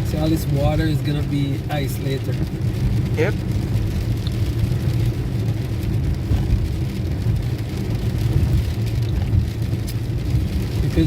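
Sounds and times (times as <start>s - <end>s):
car engine and tyre rumble: 0.0s - 11.0s
tyres on slushy road: 0.0s - 11.0s.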